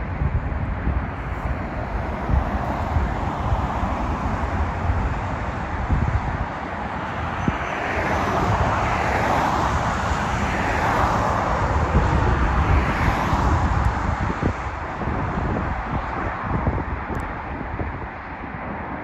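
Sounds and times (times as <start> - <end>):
wind rumbling on microphone: 0.0 - 19.0
jet engines roaring: 0.5 - 19.0.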